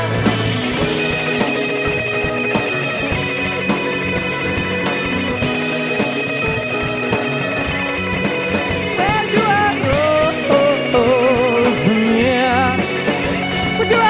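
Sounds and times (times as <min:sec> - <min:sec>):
drum kit beat: 0:00.0 - 0:14.0
folk-rock band playing: 0:00.0 - 0:14.0.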